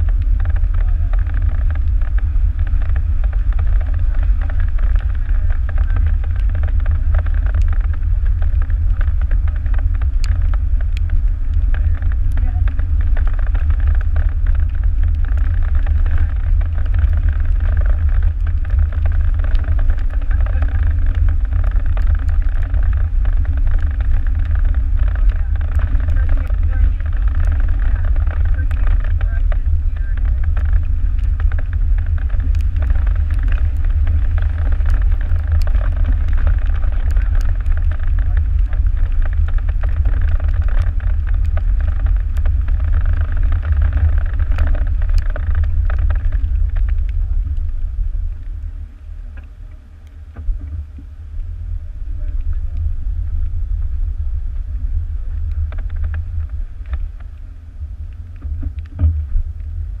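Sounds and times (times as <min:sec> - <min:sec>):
gravel ticks: 0:00.0 - 1:00.0
wind and road rumble: 0:00.0 - 1:00.0.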